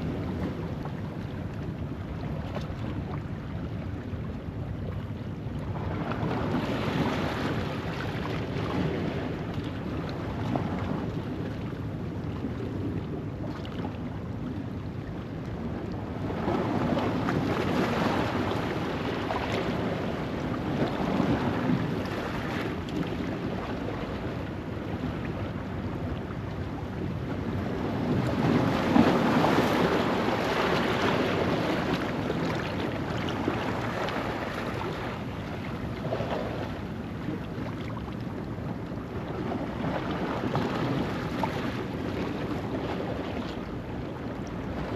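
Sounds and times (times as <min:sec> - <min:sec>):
wind: 0:00.0 - 0:44.9.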